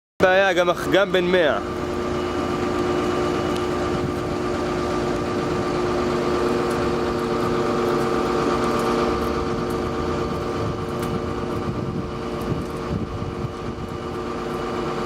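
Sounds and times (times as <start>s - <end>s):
heavy vehicle engine idling: 0.2s - 15.0s.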